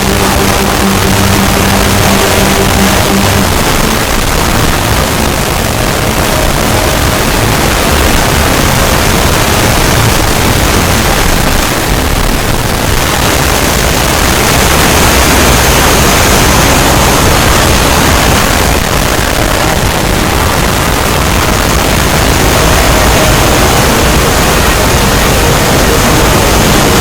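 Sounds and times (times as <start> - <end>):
loud static noise: 0.0 - 27.0.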